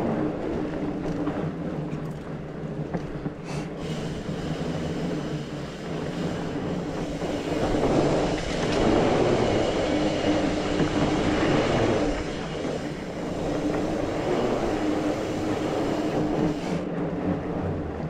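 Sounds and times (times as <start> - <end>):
bike rolling on dirt trail: 0.0 - 18.0.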